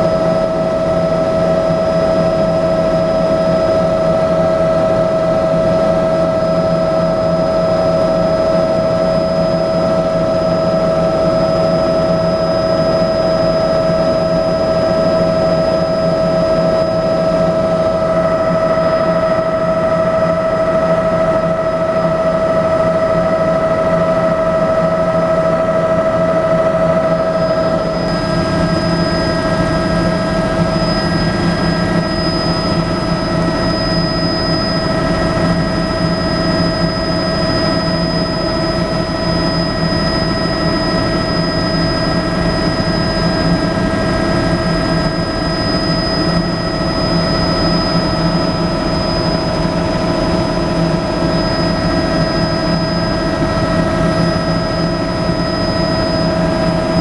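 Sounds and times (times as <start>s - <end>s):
helicopter rotor and turbine drone: 0.0s - 57.0s
high whine: 0.0s - 57.0s.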